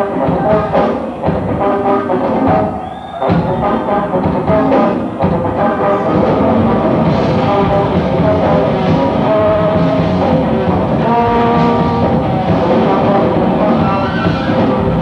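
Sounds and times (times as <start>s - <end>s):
amplified instruments: 0.0s - 15.0s
drums: 0.0s - 15.0s.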